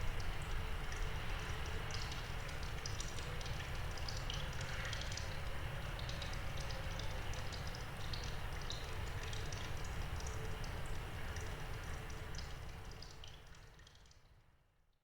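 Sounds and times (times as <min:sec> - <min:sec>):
low rumble of wind and rain: 0:00.0 - 0:13.1
water dripping in cave: 0:00.0 - 0:14.4.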